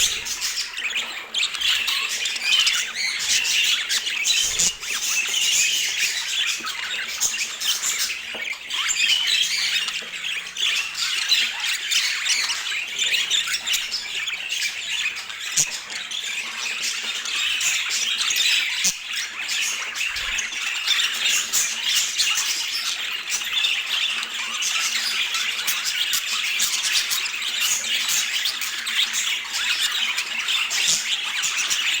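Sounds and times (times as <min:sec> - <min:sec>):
budgerigars chattering and squawking: 0:00.0 - 0:32.0.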